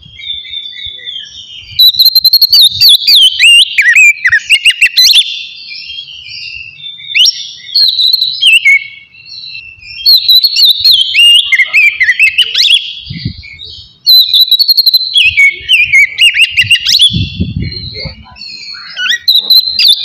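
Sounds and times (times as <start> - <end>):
bird singing whistled song: 0.0 - 20.0.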